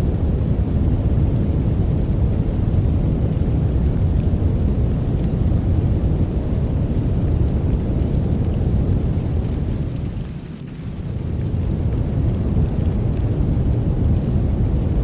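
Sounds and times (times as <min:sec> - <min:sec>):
deep rumbling noise: 0:00.0 - 0:10.2, 0:11.2 - 0:15.0.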